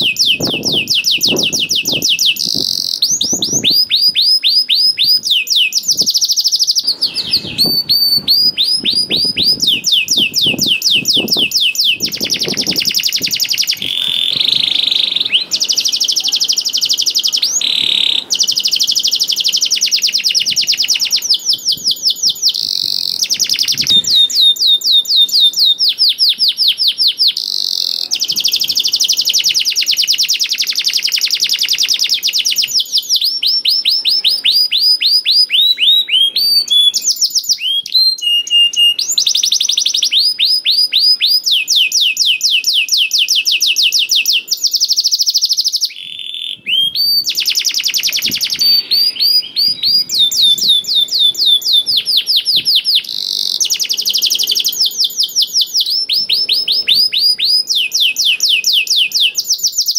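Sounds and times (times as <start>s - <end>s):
canary singing fast trills: 0.0s - 59.9s.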